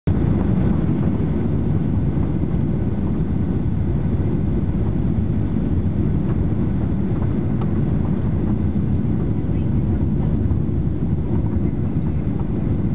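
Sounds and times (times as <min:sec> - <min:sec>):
airplane engines rumbling: 0:00.1 - 0:12.9.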